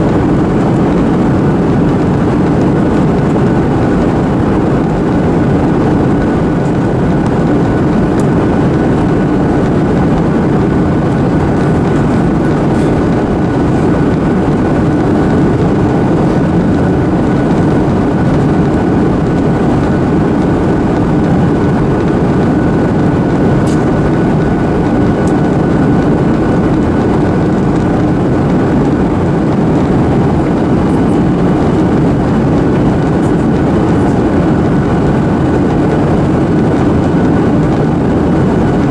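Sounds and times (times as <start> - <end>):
airflow and jet engine noise: 0.0 - 38.9
faint high whine: 0.0 - 38.9.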